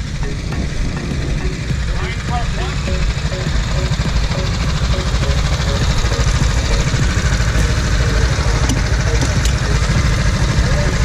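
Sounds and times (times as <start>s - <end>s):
go-kart engines idling: 0.0s - 11.0s.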